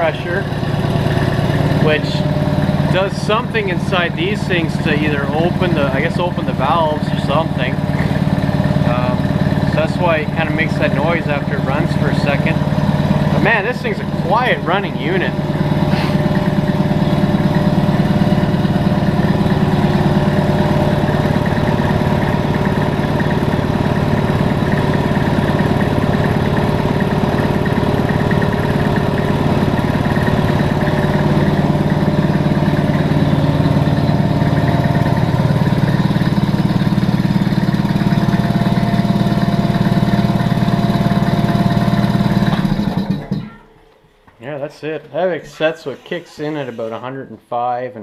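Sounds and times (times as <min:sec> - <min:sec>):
piston air compressor running: 0:00.0 - 0:44.2, 0:45.1 - 0:47.2.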